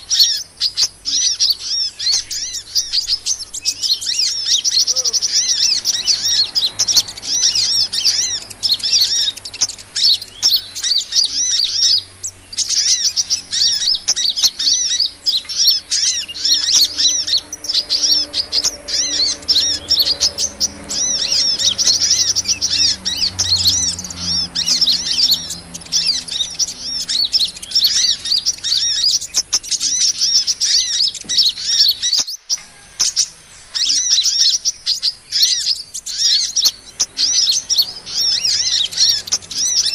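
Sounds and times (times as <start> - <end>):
small songbirds twittering: 0.0 - 39.9.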